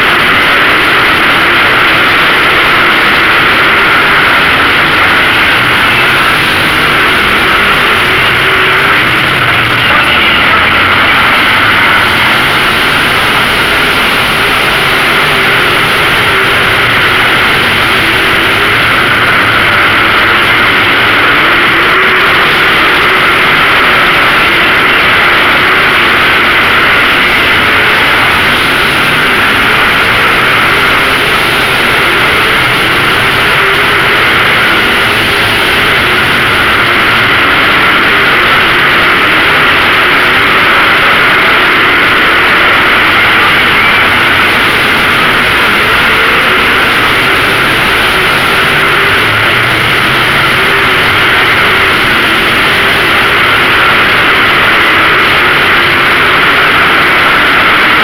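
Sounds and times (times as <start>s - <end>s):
race car engines droning: 0.0s - 58.0s.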